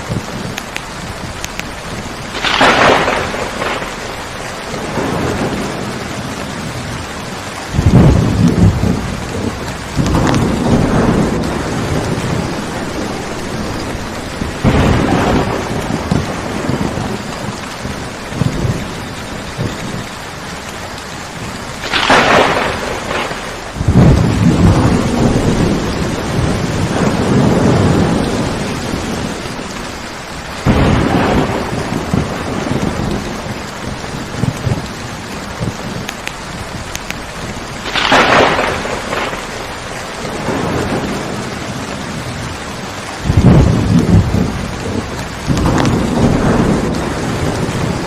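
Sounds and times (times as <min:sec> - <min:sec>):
heavy rain: 0:00.0 - 0:48.0
thunder rolling: 0:00.0 - 0:48.0.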